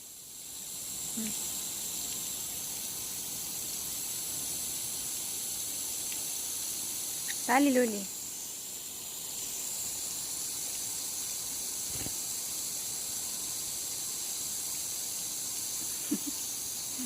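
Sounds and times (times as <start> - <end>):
water spraying hiss: 0.0 - 17.0.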